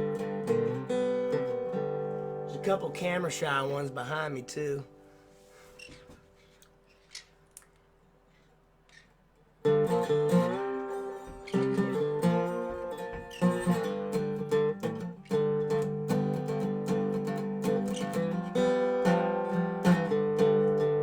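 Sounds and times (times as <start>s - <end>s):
slide resonator guitar notes: 0.0s - 5.5s, 9.6s - 21.0s.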